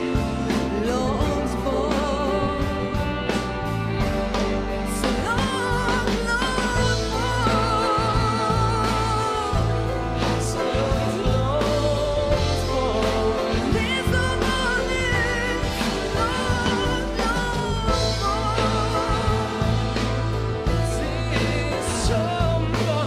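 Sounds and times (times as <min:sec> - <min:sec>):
woman singing: 0:00.0 - 0:03.8, 0:04.7 - 0:23.0
live band: 0:00.0 - 0:23.0
man singing: 0:00.0 - 0:23.0.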